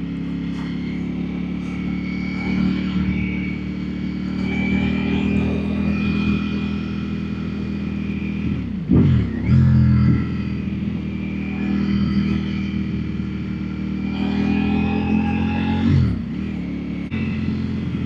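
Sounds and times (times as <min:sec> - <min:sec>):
motorbike engine running: 0:00.0 - 0:18.0.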